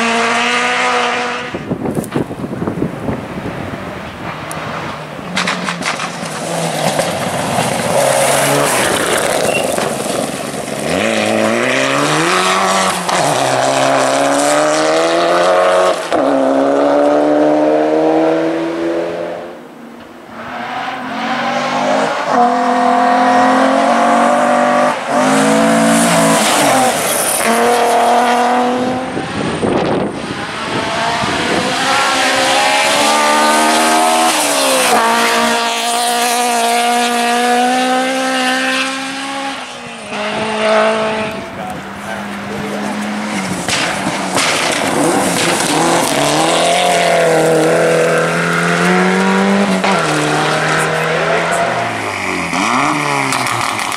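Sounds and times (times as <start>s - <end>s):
rally car engines at full throttle: 0.0s - 53.9s.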